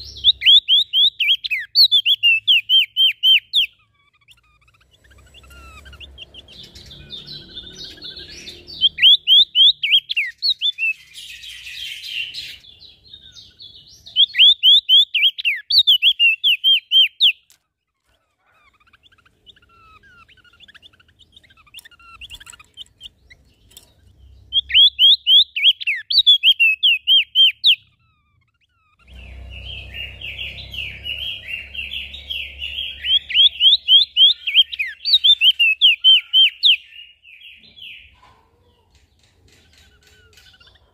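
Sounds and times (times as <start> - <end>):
songbird whistling: 0.0 - 17.5, 18.7 - 38.2.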